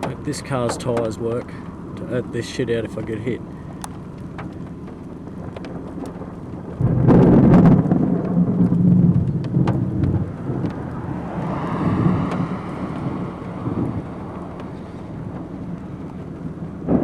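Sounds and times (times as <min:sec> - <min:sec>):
raindrop ticks: 0:00.0 - 0:17.0
thunderclap rumbling: 0:00.0 - 0:17.0.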